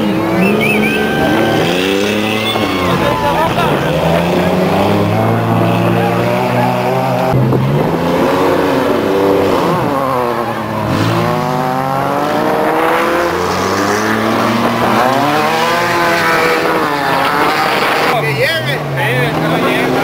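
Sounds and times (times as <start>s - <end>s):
off-road vehicles revving past: 0.0s - 20.0s.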